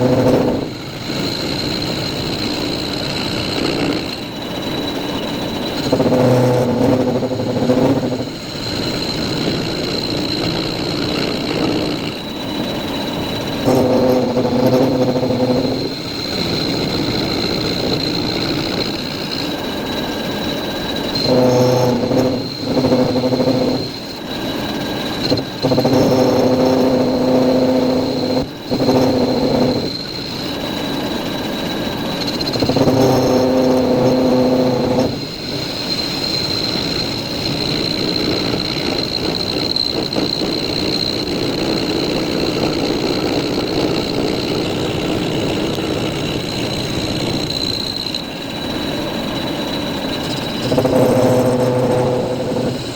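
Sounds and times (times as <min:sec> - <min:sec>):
loud humming tone: 0:00.0 - 0:35.7, 0:43.2 - 0:52.9
metal lathe whining: 0:00.0 - 0:52.9.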